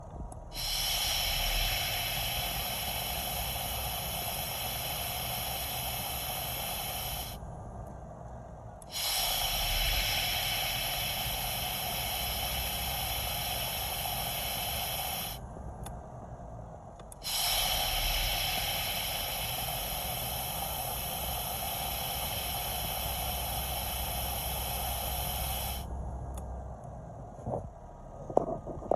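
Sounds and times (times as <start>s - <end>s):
low steady hum: 0.0s - 28.9s
brake booster hissing: 0.3s - 7.4s, 8.8s - 15.9s, 17.0s - 26.5s.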